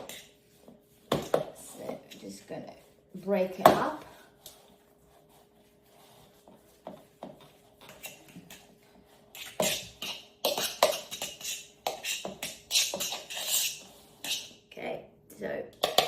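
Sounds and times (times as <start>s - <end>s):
utensil scraping a bowl: 0.0s - 3.6s, 4.4s - 14.6s.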